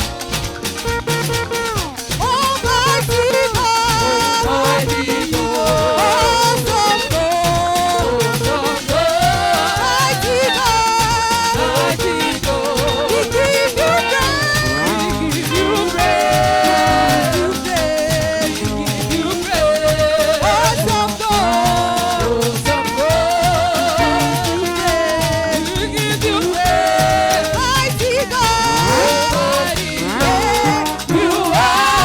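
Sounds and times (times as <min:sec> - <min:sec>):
band with fast drum beat: 0:00.0 - 0:32.0
person singing gospel: 0:00.0 - 0:32.0.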